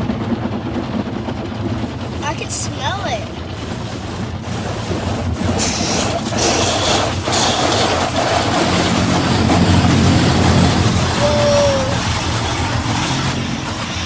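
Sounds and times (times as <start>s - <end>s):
car wash machinery rushing: 0.0s - 14.0s.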